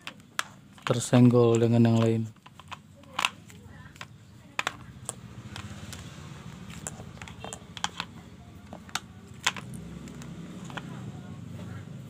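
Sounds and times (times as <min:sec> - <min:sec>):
clicks and taps handling wiring: 0:00.0 - 0:06.1, 0:06.7 - 0:10.9.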